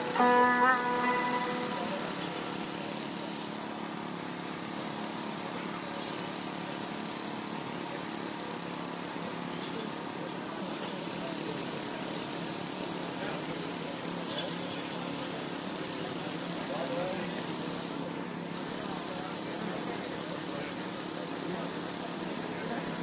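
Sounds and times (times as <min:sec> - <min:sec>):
steady mechanical drone: 0:00.0 - 0:23.0.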